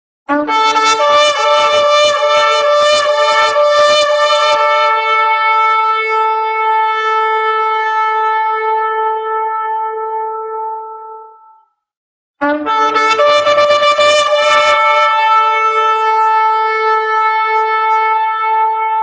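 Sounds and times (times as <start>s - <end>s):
shofar blasts: 0.3s - 11.2s, 12.4s - 19.0s.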